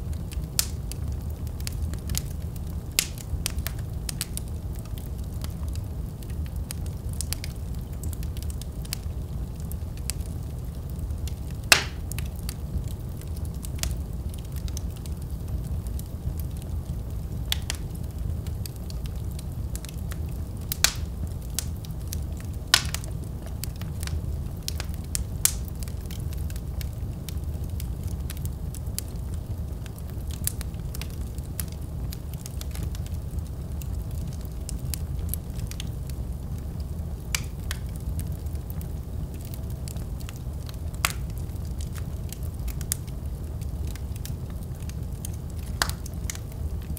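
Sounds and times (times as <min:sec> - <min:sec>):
fire crackling and popping: 0:00.0 - 0:46.9
fire flame rumble: 0:00.0 - 0:46.9.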